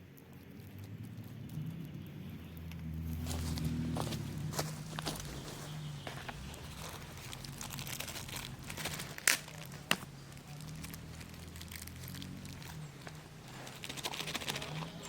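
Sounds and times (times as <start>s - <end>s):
crinkling and rustling: 2.7s - 15.0s.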